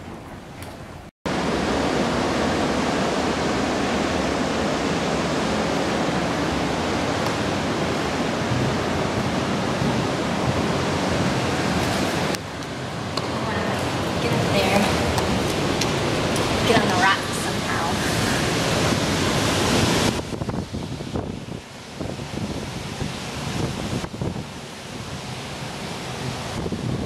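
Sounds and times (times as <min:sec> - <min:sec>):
loud steady rushing noise: 0:01.3 - 0:27.0.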